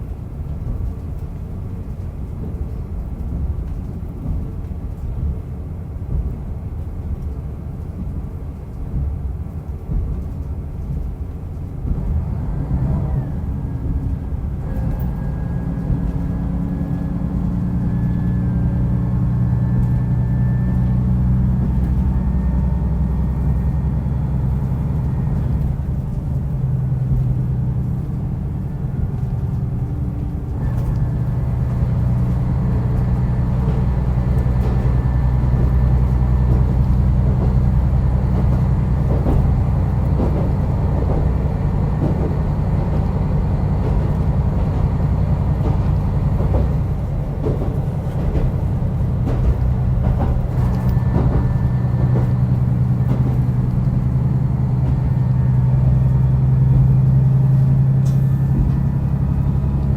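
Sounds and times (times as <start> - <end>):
diesel railcar engine: 0.0 - 59.9
train wheel rumble: 0.0 - 59.9.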